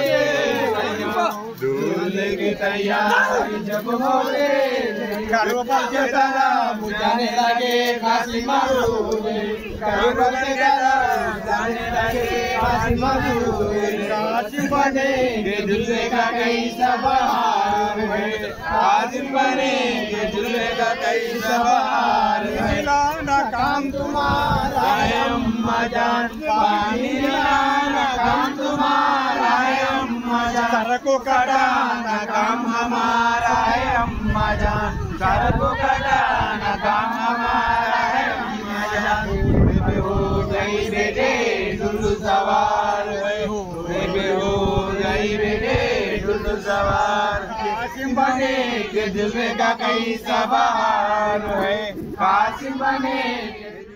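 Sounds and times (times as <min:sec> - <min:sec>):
voices chanting devotional song: 0:00.0 - 0:53.9.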